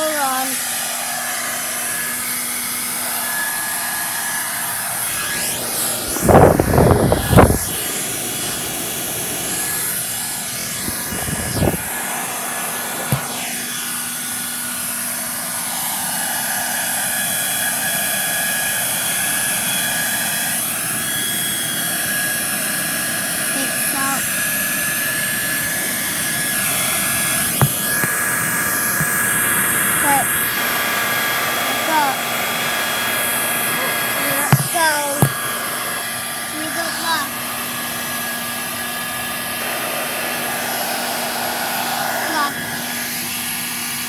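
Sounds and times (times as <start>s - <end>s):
hair dryer blowing: 0.0s - 44.0s.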